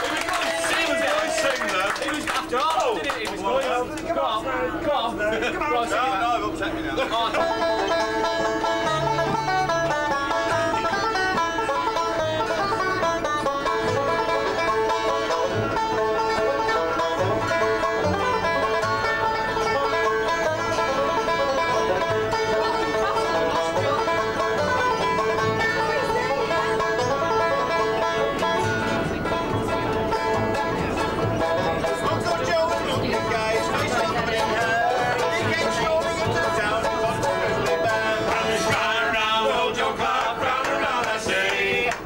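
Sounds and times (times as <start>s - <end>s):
folk band playing: 0.0s - 42.0s.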